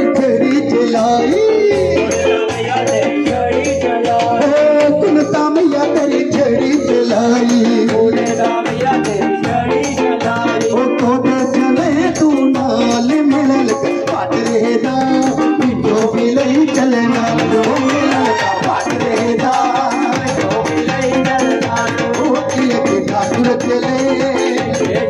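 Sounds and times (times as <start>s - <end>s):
fast steady percussion: 0.0s - 25.0s
folk music melody: 0.0s - 25.0s.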